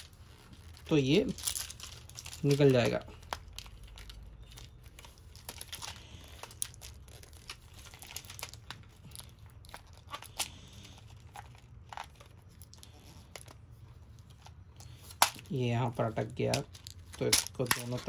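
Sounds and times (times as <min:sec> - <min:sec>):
small plastic clicks and crinkles: 0:00.0 - 0:15.5.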